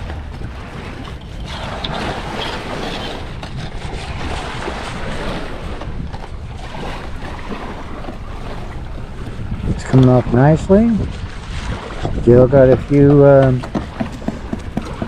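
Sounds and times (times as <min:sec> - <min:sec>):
scrubbing on rubber hull: 0:00.0 - 0:15.0
wind buffeting microphone: 0:00.0 - 0:15.0.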